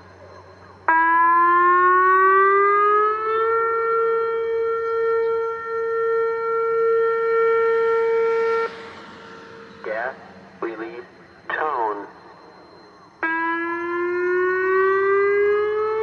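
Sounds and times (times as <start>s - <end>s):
rising electronic siren tone: 0.0s - 16.0s.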